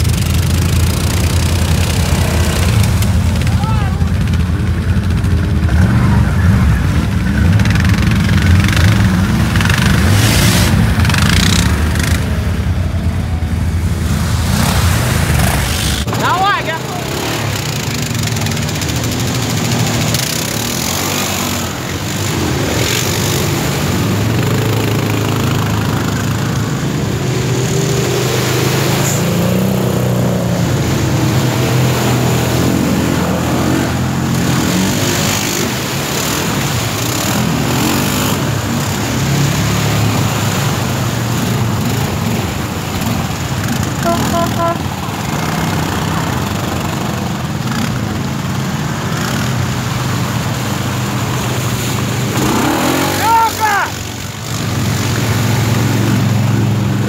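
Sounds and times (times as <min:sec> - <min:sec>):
quad bike engines revving: 0:00.0 - 0:57.0
rushing river water: 0:00.0 - 0:57.0.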